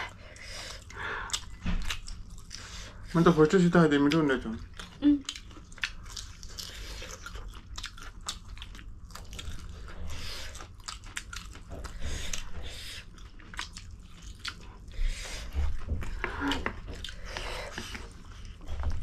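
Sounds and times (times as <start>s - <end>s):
close chewing and biting: 0.0s - 19.0s.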